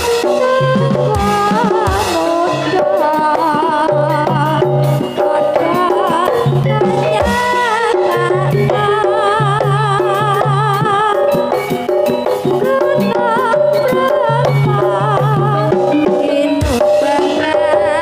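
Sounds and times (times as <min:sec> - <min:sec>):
drumming: 0:00.0 - 0:18.0
melody with wavering vibrato: 0:00.0 - 0:18.0.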